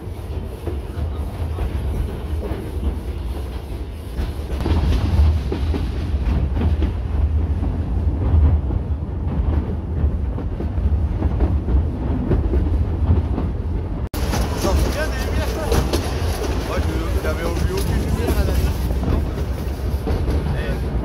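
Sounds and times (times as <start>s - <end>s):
train carriages rumbling: 0.0s - 21.0s
wheel clatter on rails: 0.0s - 21.0s.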